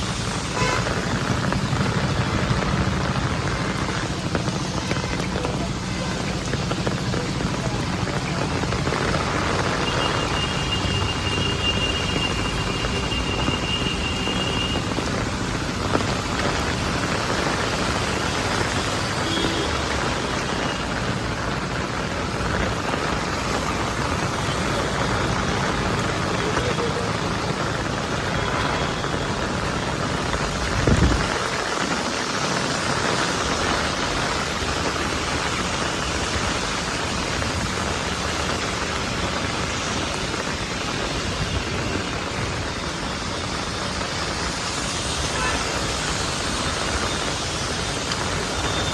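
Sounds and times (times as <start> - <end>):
rain falling: 0.0 - 48.9.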